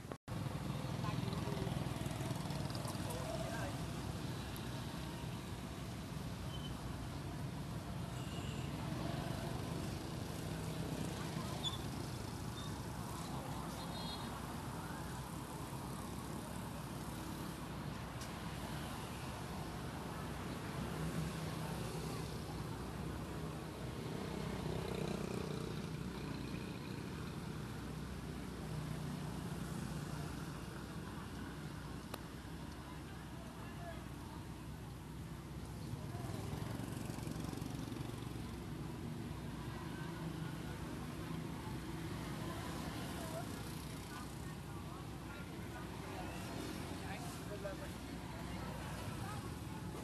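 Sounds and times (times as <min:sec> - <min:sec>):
low rumble of street traffic: 0:00.0 - 0:50.0.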